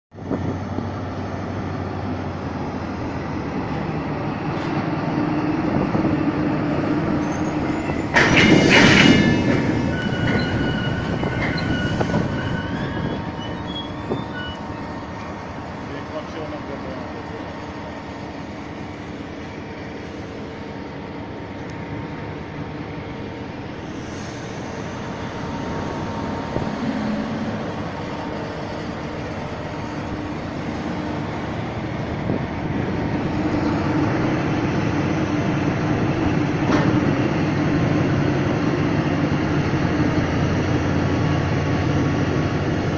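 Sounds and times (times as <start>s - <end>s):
diesel locomotive engine running: 0.2s - 42.9s.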